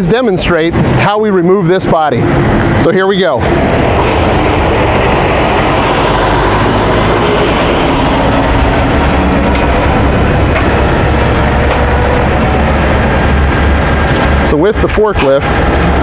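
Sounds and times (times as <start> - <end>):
heavy equipment engines running: 0.0 - 16.0.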